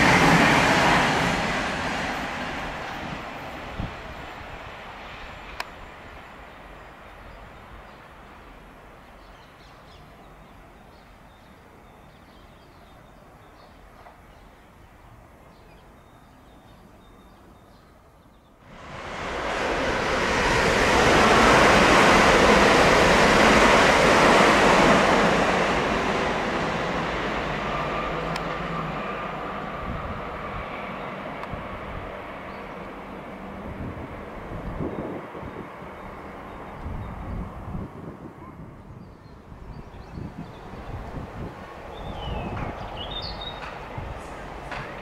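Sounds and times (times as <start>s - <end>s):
train passing with wheel and air noise: 0.0s - 45.0s.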